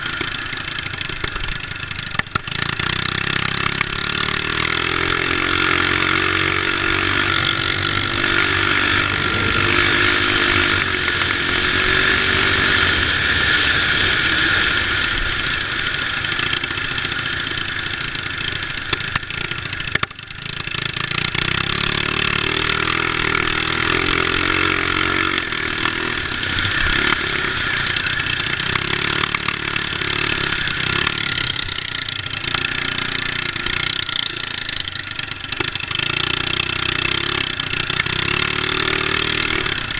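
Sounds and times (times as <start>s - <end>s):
mini bike engines revving: 0.0s - 39.9s.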